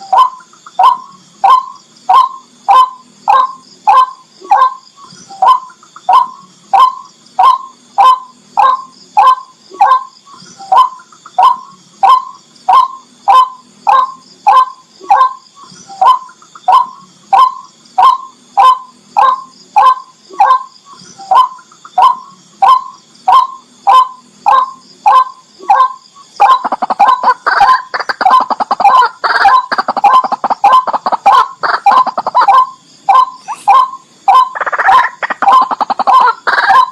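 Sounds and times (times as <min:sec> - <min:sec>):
rail bird calling: 0:00.0 - 0:36.9.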